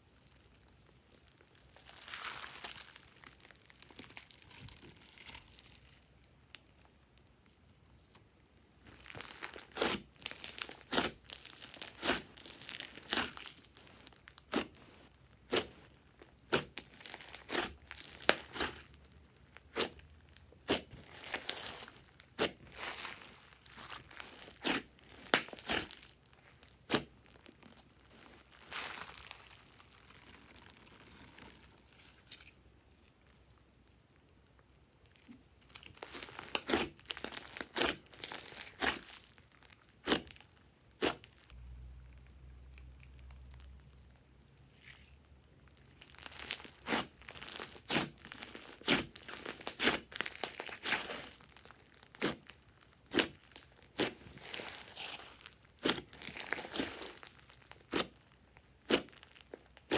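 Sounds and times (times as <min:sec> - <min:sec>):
slime squishing: 0:00.0 - 0:33.6, 0:34.5 - 0:59.9
slime popping and crackling: 0:00.2 - 0:07.3, 0:08.8 - 0:32.4, 0:35.0 - 0:41.6, 0:44.7 - 0:59.9.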